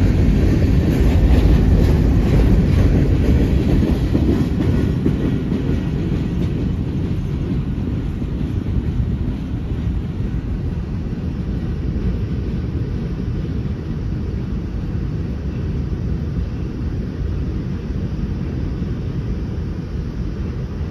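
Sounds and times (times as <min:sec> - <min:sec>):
freight train rumbling on rails: 0:00.0 - 0:20.9
wind buffeting microphone: 0:00.0 - 0:20.9.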